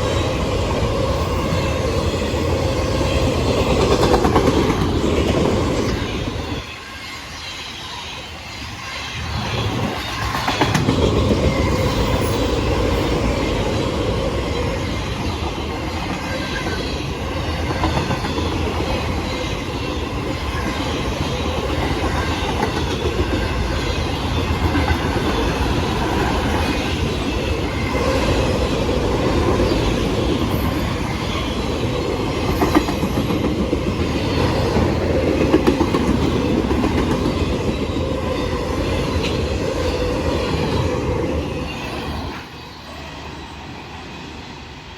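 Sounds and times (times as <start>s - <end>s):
freight train wheels on rails: 0.0s - 44.9s.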